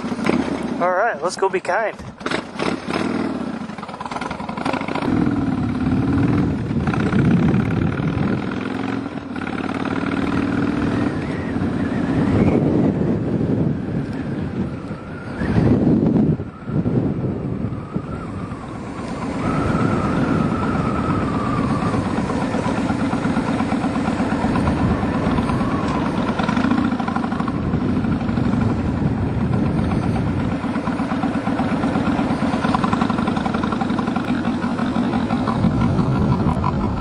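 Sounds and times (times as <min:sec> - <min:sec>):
motorcycle engine running: 0:00.0 - 0:01.2, 0:02.0 - 0:37.0.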